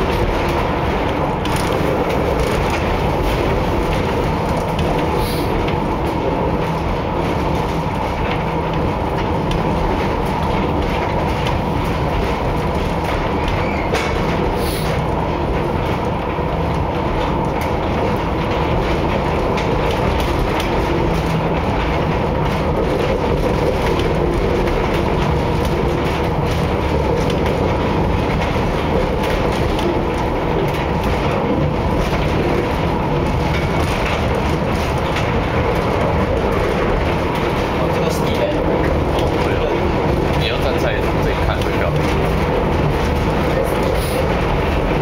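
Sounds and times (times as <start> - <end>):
steel wheels rumbling on rails: 0.0 - 45.0.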